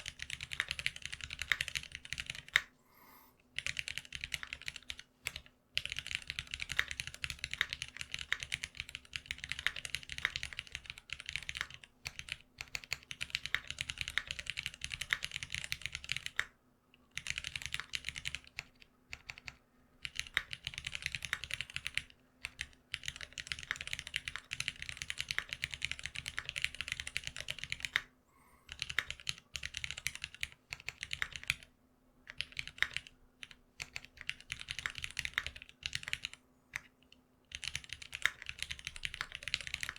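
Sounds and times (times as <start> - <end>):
fast typing on keyboard: 0.0 - 2.7, 3.6 - 28.1, 28.7 - 31.7, 32.3 - 39.9.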